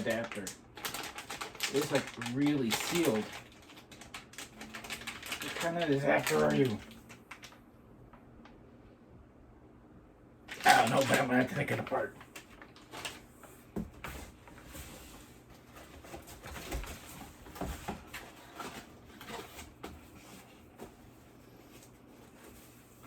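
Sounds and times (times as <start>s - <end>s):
packaging rustling and crinkling: 0.0s - 7.6s, 10.5s - 23.0s.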